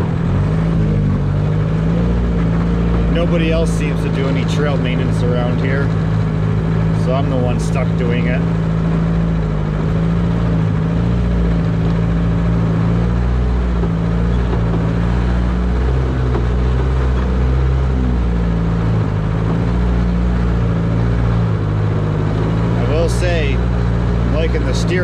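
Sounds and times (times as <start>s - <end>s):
engine running at low speed: 0.0s - 25.0s.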